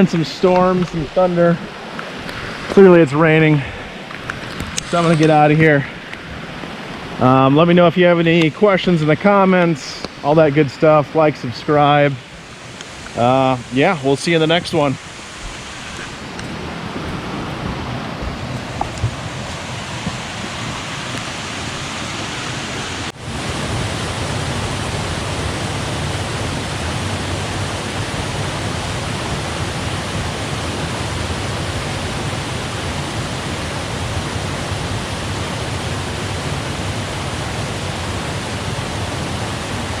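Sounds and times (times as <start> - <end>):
heavy rain: 0.0 - 40.0
stream water falling: 0.0 - 40.0.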